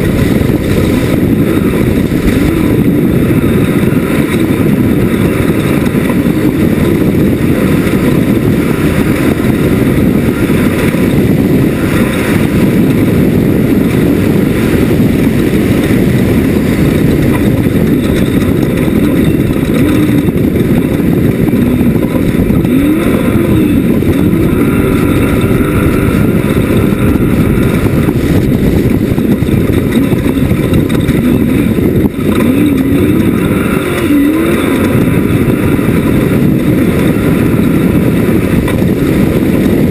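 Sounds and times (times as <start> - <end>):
race buggy engine revving: 0.0 - 39.9.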